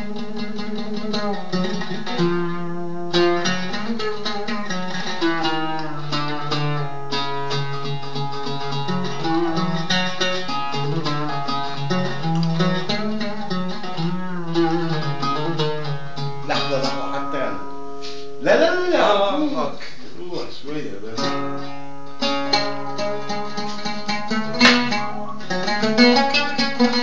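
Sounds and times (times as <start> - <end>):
oud melody: 0.0 - 19.7, 21.1 - 27.0.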